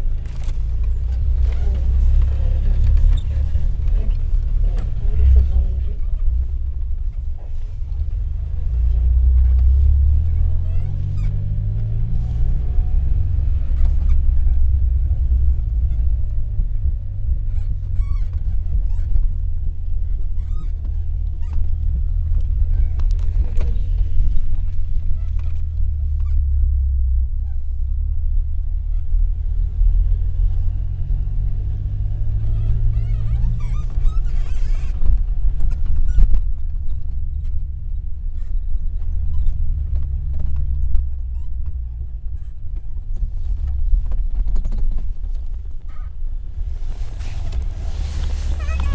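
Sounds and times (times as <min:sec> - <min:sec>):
car engine rumble from cabin: 0:00.0 - 0:48.9.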